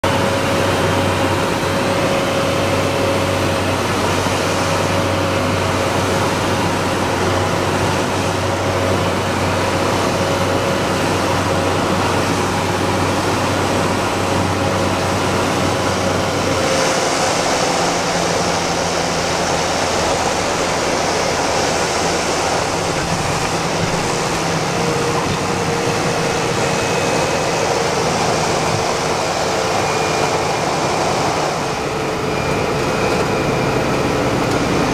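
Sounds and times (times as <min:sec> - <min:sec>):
aircraft rolling on runway hiss: 0:00.0 - 0:34.9
turboprop engine droning: 0:00.0 - 0:34.9.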